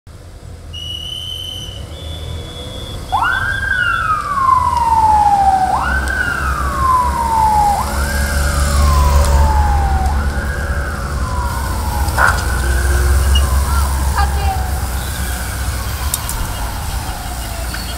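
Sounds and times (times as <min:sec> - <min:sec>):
motorcycle engines rumbling: 0:00.1 - 0:17.9
siren wailing: 0:01.6 - 0:17.9
steady high tone: 0:02.6 - 0:17.9.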